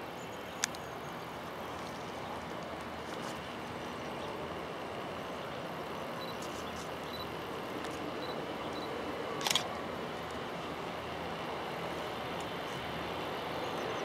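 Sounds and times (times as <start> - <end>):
distant jet engines rushing: 0.0 - 14.0.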